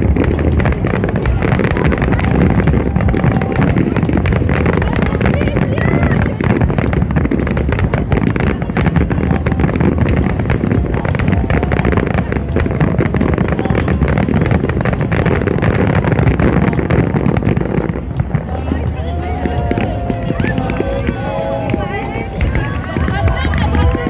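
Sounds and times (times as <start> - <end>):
fireworks bangs and crackles: 0.0 - 24.0
wind buffeting microphone: 0.0 - 24.0.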